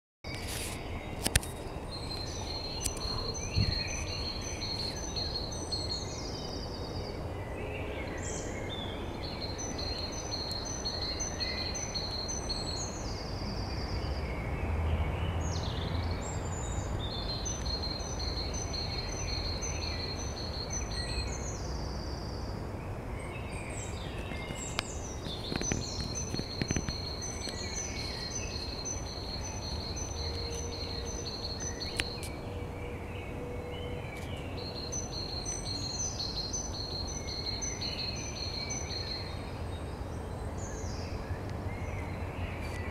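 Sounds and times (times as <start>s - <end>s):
songbird singing: 0.2s - 42.9s
birds chirping: 0.3s - 42.9s.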